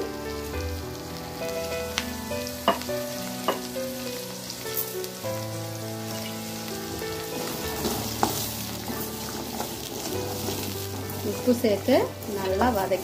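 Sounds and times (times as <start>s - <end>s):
onions sizzling in oil: 0.0s - 13.0s
soft instrumental music: 0.0s - 13.0s.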